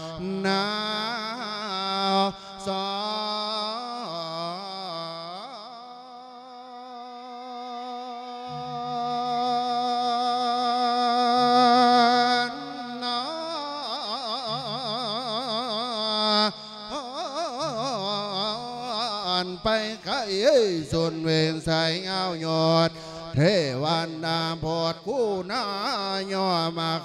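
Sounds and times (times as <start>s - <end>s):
man chanting melodic sermon: 0.0s - 27.0s.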